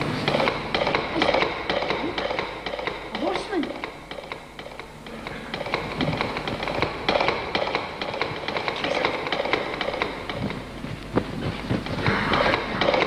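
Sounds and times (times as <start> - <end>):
horse hoofbeats: 0.2 - 13.0.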